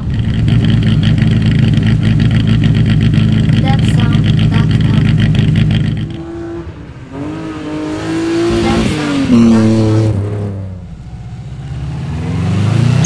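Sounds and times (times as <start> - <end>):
rally car engine passing by: 0.0 - 13.0.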